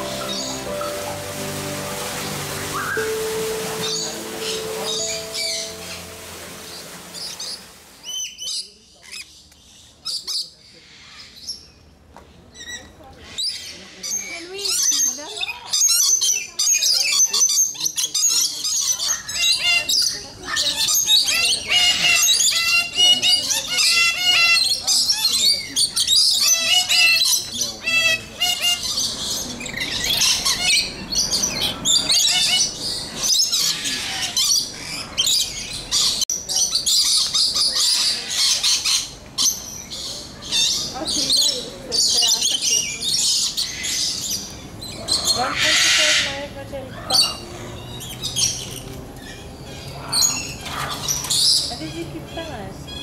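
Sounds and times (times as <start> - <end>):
lorikeets chattering and screeching: 0.0 - 11.6, 12.6 - 53.0.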